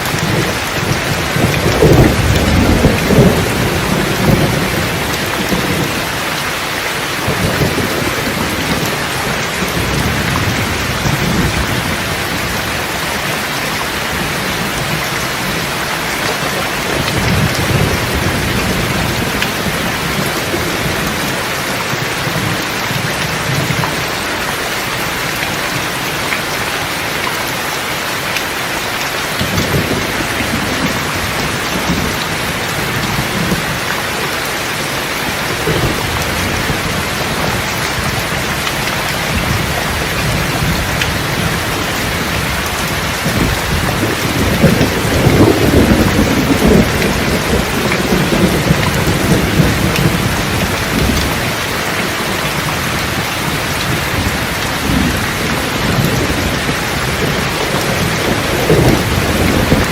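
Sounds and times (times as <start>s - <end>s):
rolling thunder: 0.0s - 6.4s, 7.0s - 13.3s, 14.0s - 24.2s, 29.4s - 33.9s, 34.8s - 51.7s, 52.3s - 59.9s
steady rain: 0.0s - 59.9s.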